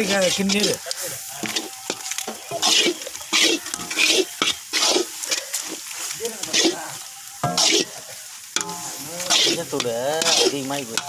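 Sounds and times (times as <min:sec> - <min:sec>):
ladle scraping a pan: 0:00.0 - 0:11.0
light frying sizzle: 0:00.0 - 0:11.0.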